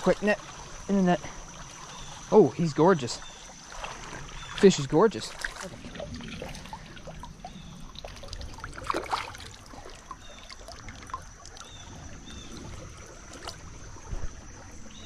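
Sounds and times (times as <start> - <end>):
creek water trickling: 0.0 - 15.0
small water splashes: 0.0 - 15.0.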